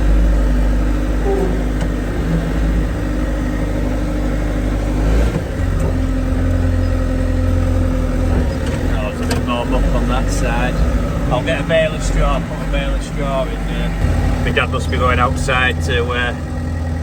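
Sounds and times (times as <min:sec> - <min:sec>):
diesel engine heard from cab: 0:00.0 - 0:17.0.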